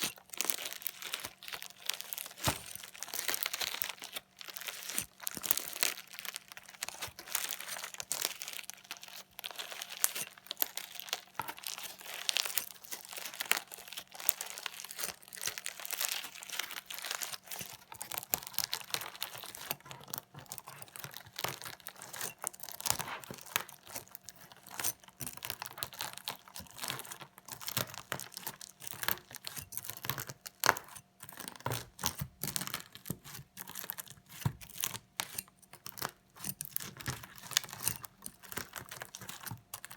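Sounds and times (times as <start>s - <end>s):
fork chopping crunchy slime: 0.0s - 6.0s, 9.5s - 39.9s.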